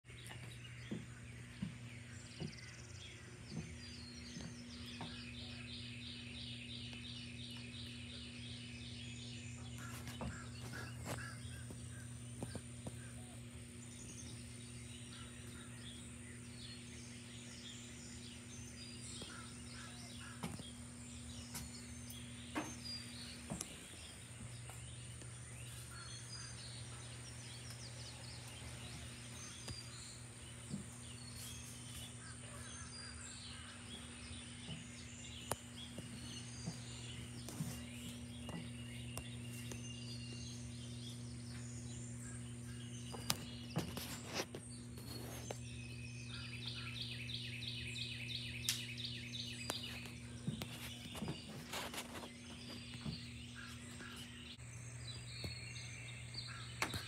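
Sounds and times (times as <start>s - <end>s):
birds chirping: 0.0s - 57.0s
irregular fan clicks: 0.1s - 54.6s, 55.2s - 57.0s
ceiling fan motor hum: 0.1s - 57.0s.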